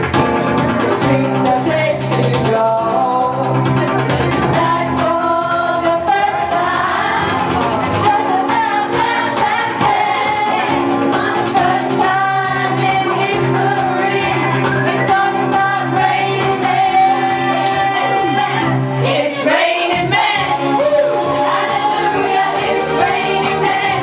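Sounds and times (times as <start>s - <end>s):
pop backing track with drums: 0.0s - 18.8s, 19.5s - 24.0s
person singing karaoke: 0.8s - 24.0s.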